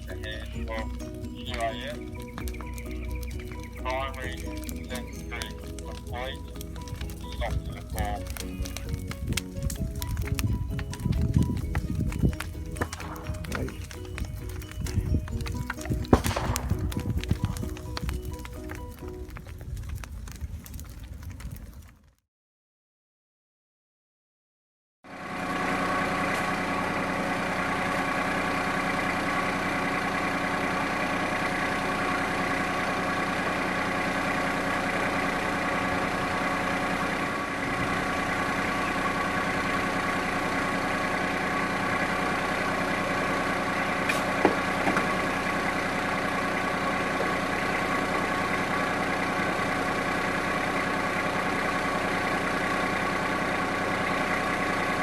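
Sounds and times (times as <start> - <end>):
diesel tractor engine running: 0.0 - 21.9, 25.1 - 55.0.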